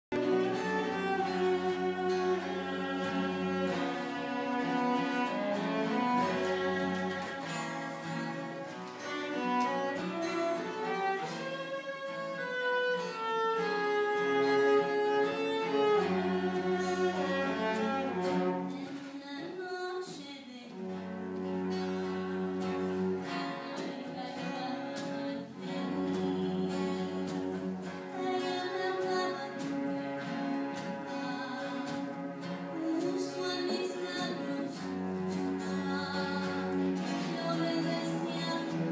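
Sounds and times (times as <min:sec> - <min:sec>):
bowed strings chamber music: 0:00.1 - 0:19.0, 0:20.8 - 0:38.9
cello low line: 0:00.1 - 0:19.0, 0:20.8 - 0:38.9.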